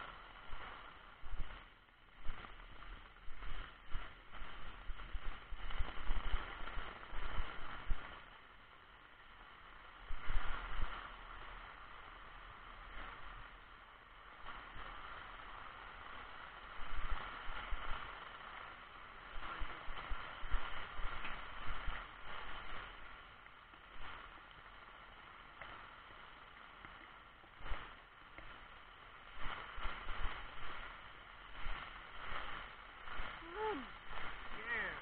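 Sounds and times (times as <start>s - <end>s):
raindrops knocking on umbrella: 0.0s - 8.8s, 14.4s - 35.0s
rain falling: 0.0s - 35.0s.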